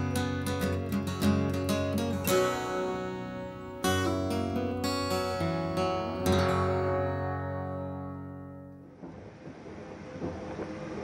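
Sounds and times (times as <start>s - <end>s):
strummed acoustic guitar: 0.0s - 8.8s.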